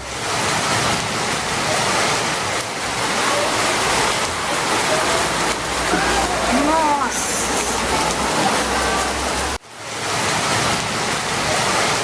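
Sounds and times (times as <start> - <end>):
loud steady rushing noise: 0.0 - 12.0.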